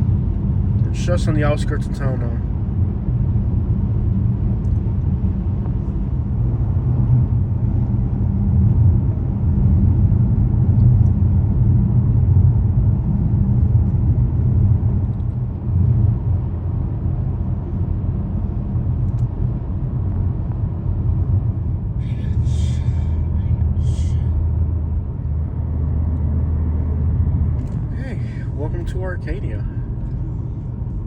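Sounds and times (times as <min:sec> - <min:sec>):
vehicle driving on road: 0:00.0 - 0:31.0.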